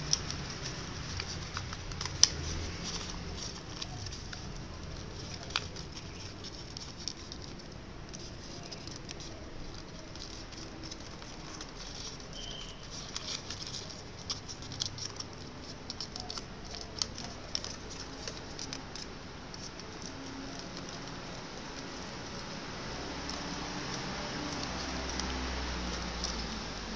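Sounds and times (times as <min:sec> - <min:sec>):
paper crinkling and crackling: 0:00.0 - 0:26.9.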